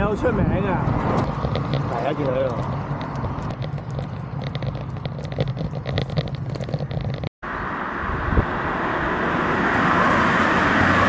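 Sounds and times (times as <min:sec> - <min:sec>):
road traffic: 0:00.0 - 0:11.0
wind: 0:00.0 - 0:11.0.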